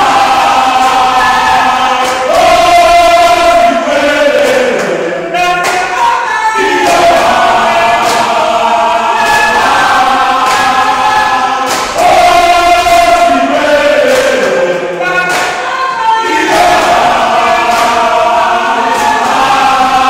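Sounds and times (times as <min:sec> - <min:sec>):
men singing in chorus: 0:00.0 - 0:20.0.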